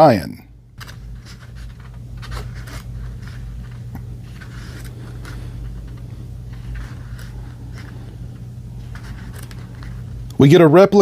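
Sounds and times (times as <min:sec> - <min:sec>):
low hum: 0:00.4 - 0:10.8
paper rustling: 0:00.8 - 0:10.2.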